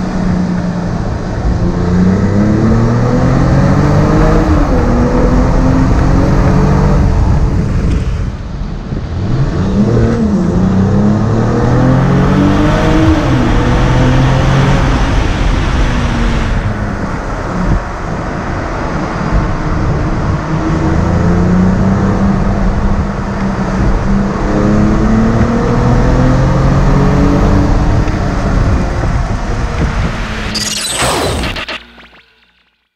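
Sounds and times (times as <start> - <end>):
car engine accelerating in a tunnel: 0.0 - 30.6
tyre and road noise: 0.0 - 32.9.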